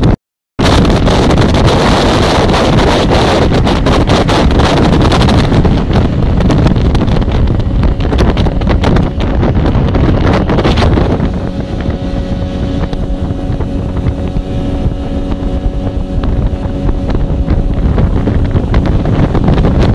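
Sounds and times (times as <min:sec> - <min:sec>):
outboard motor running: 0:00.0 - 0:19.9
wind buffeting microphone: 0:00.0 - 0:19.9.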